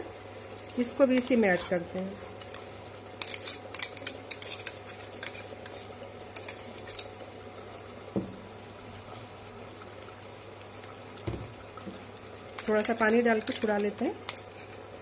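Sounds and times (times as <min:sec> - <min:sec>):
food simmering and bubbling: 0:00.0 - 0:15.0
induction cooktop hum: 0:00.0 - 0:15.0.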